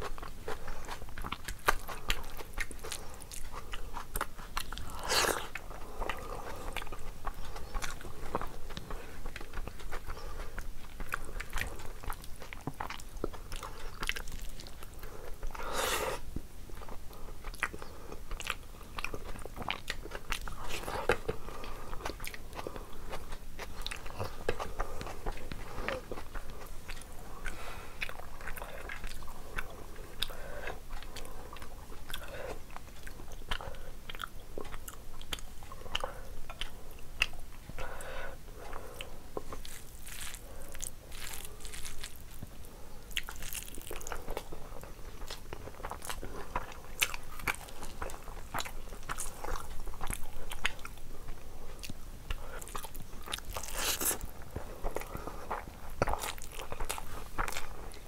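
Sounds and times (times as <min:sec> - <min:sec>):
chewing and mouth smacks: 0:00.0 - 0:15.6, 0:16.4 - 0:38.0, 0:38.6 - 0:58.0.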